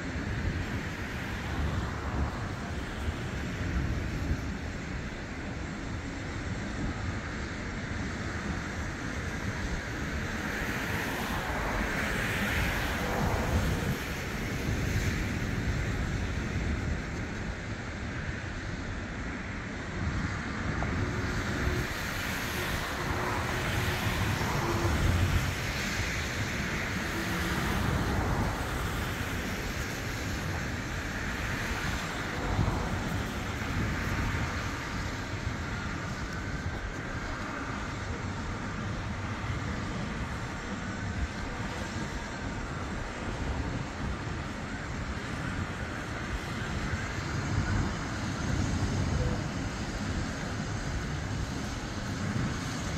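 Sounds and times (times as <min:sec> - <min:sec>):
rumble of passing vehicles: 0:00.0 - 0:52.9.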